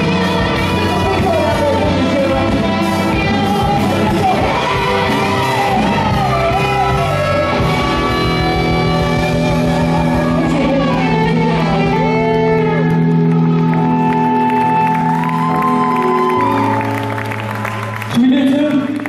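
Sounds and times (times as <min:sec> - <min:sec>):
rock band playing: 0:00.0 - 0:18.9
electric guitar: 0:00.0 - 0:19.0.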